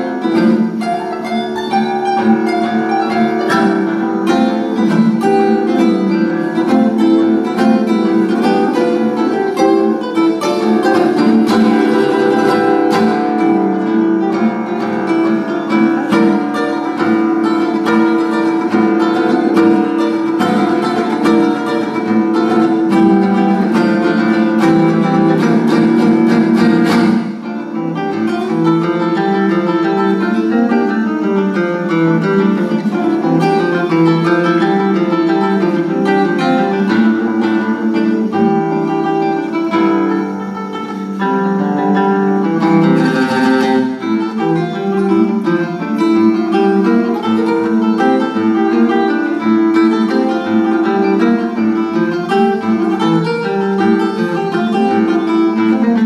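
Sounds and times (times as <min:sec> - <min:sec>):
classical guitar fingerstyle: 0:00.0 - 0:56.0.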